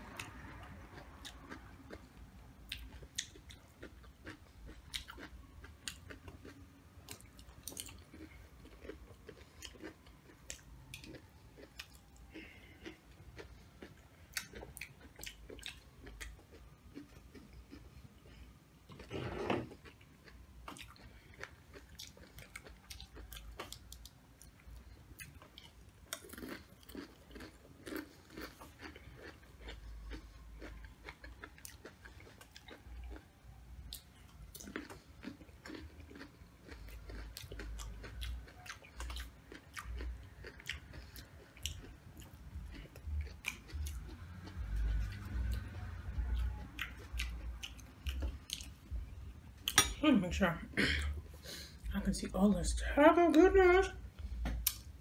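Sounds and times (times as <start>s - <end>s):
chewing crunchy chips: 0.0s - 50.0s.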